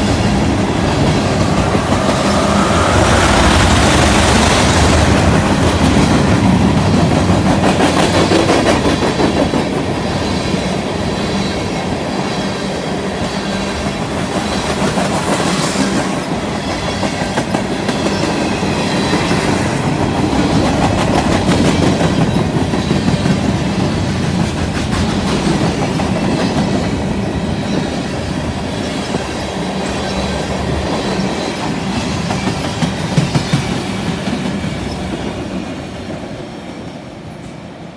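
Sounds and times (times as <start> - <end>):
freight train wheels rumbling: 0.0 - 37.9.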